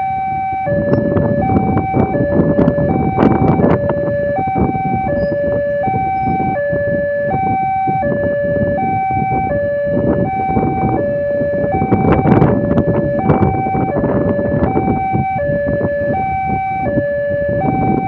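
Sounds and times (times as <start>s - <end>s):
level crossing alarm two-tone: 0.0s - 18.0s
road traffic: 0.0s - 18.0s.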